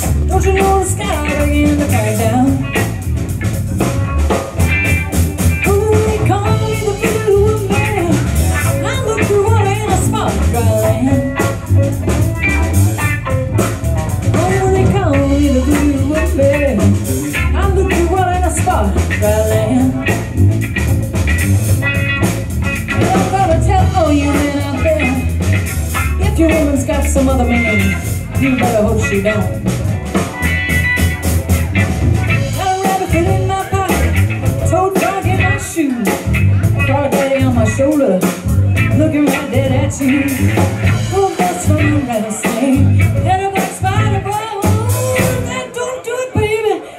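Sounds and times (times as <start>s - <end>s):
drum kit beat: 0.0s - 46.1s
bass guitar: 0.0s - 46.9s
electric guitars: 0.0s - 46.9s.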